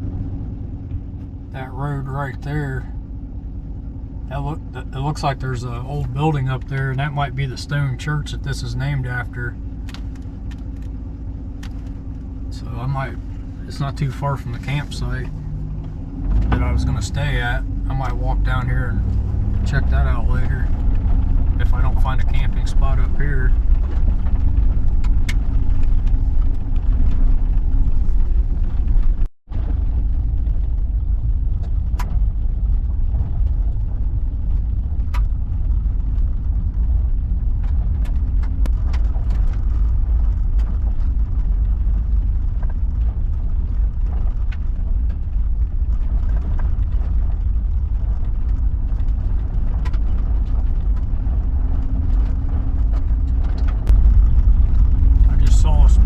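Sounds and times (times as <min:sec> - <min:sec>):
van engine and tyres rumbling: 0:00.0 - 0:56.0
ticks and rattles: 0:08.8 - 0:56.0.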